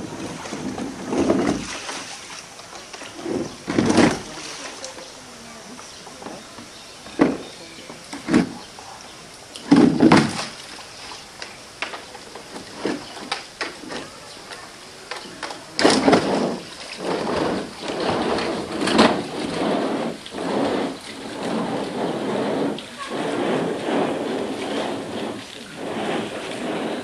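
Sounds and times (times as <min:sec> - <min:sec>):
tub scraping on wet concrete: 0:00.0 - 0:27.0
water sloshing: 0:00.0 - 0:27.0.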